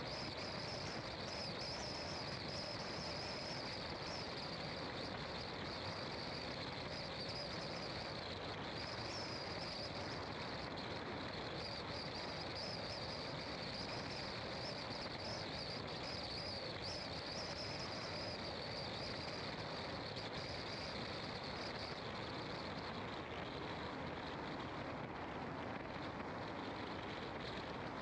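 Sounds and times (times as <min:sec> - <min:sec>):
insect chorus: 0:00.0 - 0:24.6.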